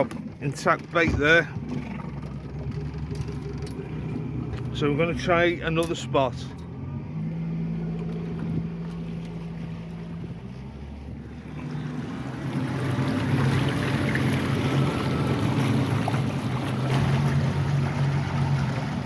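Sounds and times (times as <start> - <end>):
rushing water: 0.0 - 19.0
speedboat engine running: 0.0 - 19.0.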